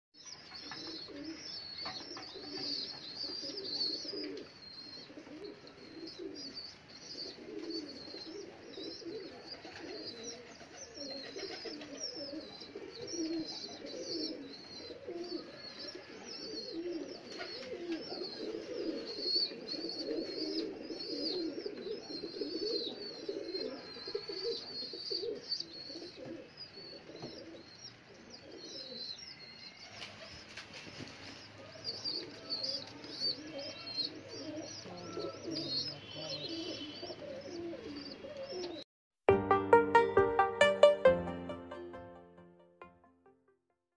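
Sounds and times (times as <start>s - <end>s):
pigeons cooing: 0.5s - 38.8s.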